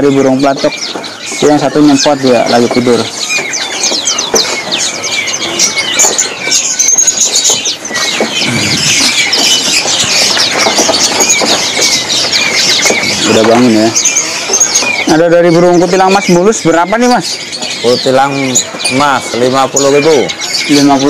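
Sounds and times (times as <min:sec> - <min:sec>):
caged birds chirping: 0:00.0 - 0:21.0.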